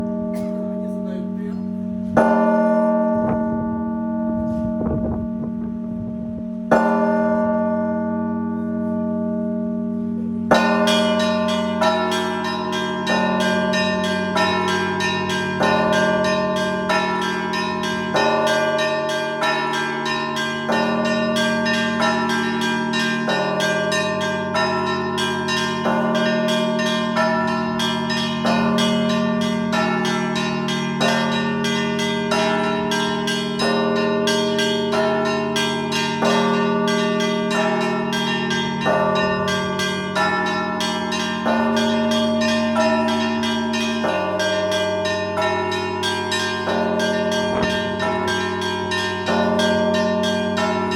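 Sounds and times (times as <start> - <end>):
deeper bells striking: 0.0 - 50.9
large church bell ringing: 0.0 - 50.9.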